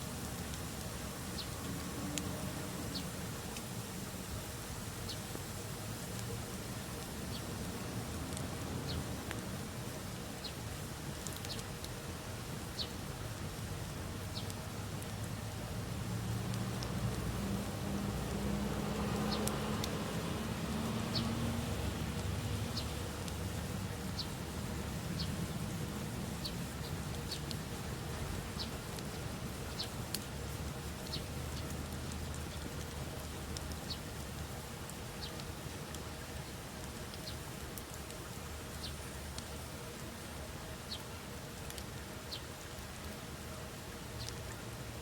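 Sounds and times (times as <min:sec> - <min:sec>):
low rush of flame: 0:00.0 - 0:37.9
campfire crackling: 0:00.0 - 0:45.0.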